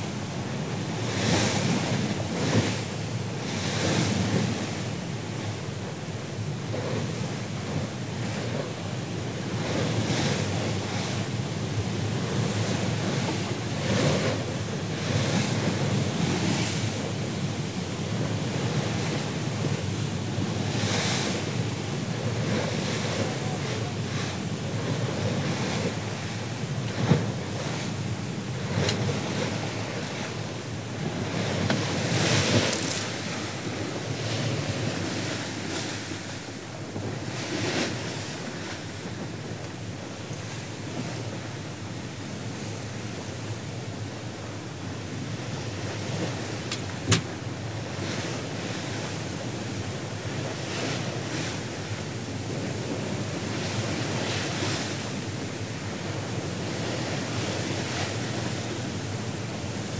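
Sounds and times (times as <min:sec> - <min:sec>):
rush of water with surging splashes: 0:00.0 - 0:59.9
wind buffeting microphone: 0:00.0 - 0:59.9.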